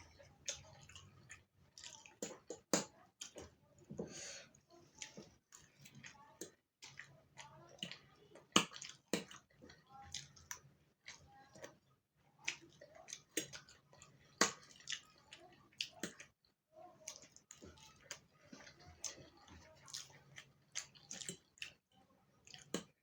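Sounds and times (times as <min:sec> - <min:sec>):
chewing with wet mouth smacks: 0:00.0 - 0:03.5, 0:04.7 - 0:16.4, 0:17.0 - 0:23.0.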